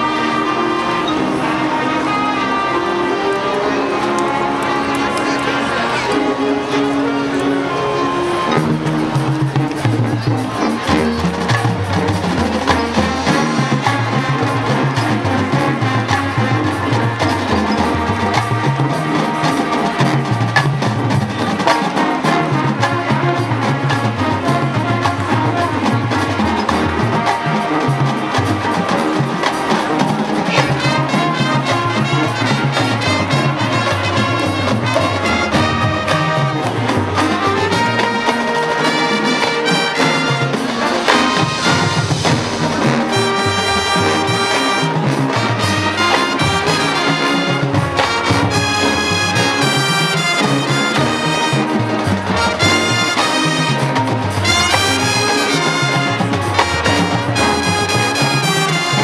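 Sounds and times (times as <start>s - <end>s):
brass section: 0.0s - 59.0s
marching band playing: 0.0s - 59.0s.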